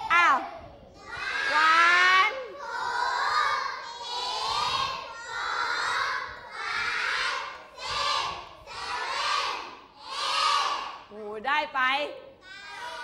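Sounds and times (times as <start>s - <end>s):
children chanting in unison: 0.0s - 1.6s, 2.3s - 11.1s, 12.5s - 13.0s.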